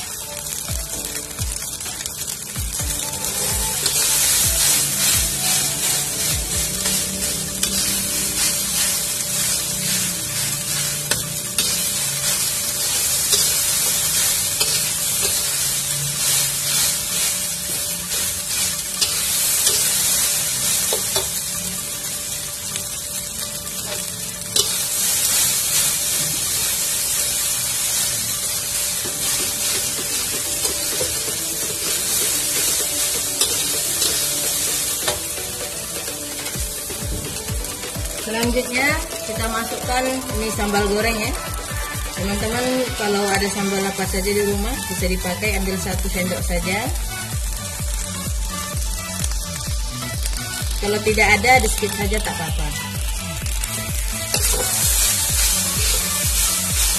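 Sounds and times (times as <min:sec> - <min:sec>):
rice sizzling in a wok: 0:00.0 - 0:56.9.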